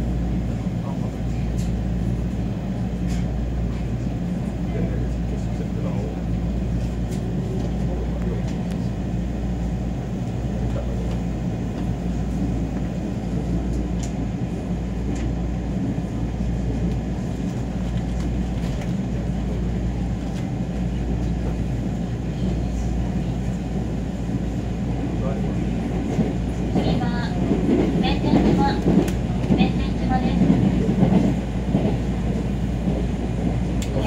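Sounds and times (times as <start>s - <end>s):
train rumble heard inside: 0.0s - 34.0s.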